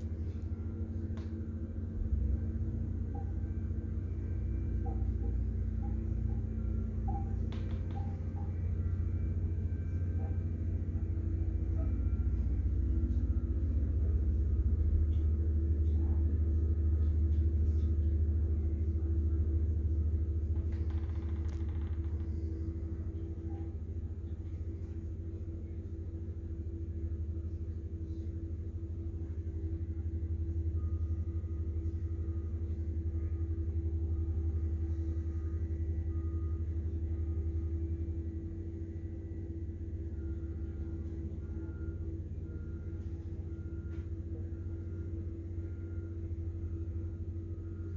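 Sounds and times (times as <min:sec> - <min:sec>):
diesel engines low rumble: 0:00.0 - 0:47.9
steady machine hum: 0:00.0 - 0:47.9.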